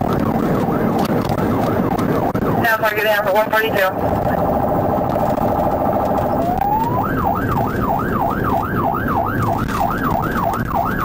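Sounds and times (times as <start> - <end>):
police siren yelping: 0.0 - 11.0
road and engine noise: 0.0 - 11.0.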